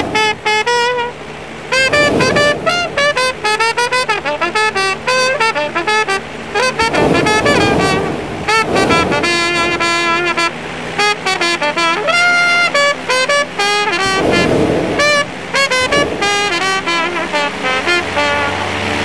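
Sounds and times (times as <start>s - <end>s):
jazz trumpet playing: 0.0s - 19.0s
rushing noise: 0.0s - 19.0s.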